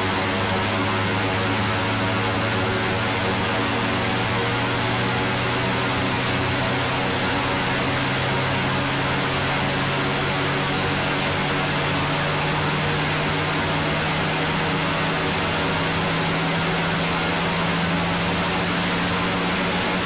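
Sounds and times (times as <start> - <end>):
synthesized drone with hiss: 0.0 - 20.0.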